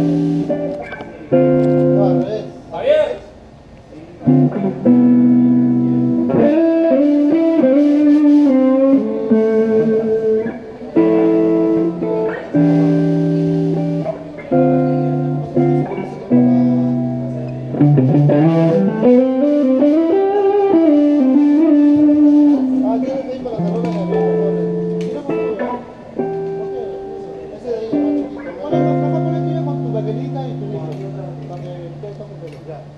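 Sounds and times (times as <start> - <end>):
electric guitar chords: 0.0 - 2.7, 3.4 - 32.9.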